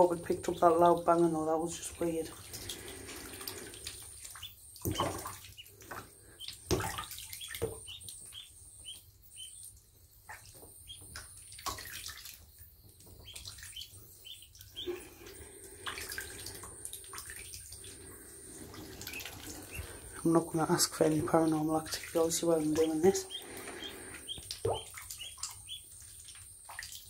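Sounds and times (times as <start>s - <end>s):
light water splashing: 0.0s - 27.0s
ducklings peeping: 2.2s - 12.0s, 12.9s - 26.4s.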